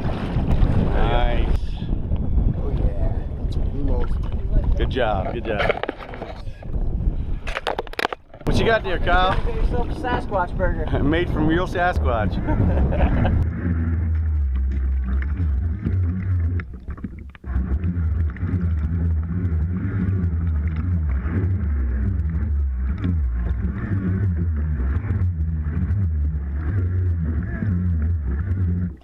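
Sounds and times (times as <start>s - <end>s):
muffled low rumble: 0.0s - 29.0s
water sloshing and splashing: 0.0s - 29.0s.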